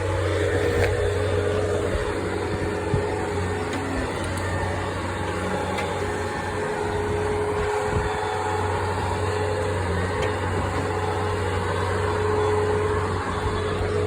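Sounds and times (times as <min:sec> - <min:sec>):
engine running at low speed: 0:00.0 - 0:14.0.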